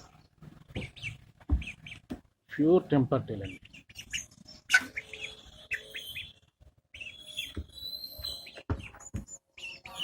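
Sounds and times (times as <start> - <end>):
chicks peeping: 0.0 - 2.7, 3.3 - 10.0.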